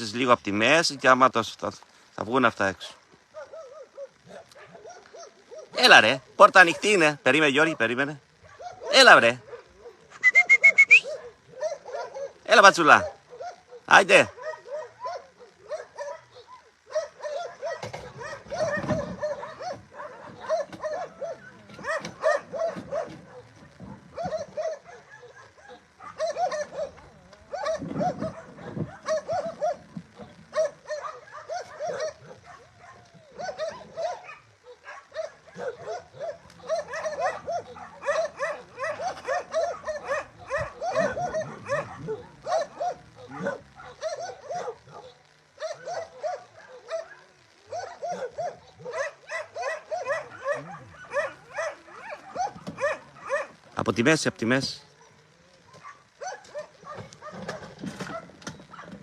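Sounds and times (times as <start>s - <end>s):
dogs barking: 2.3s - 59.0s.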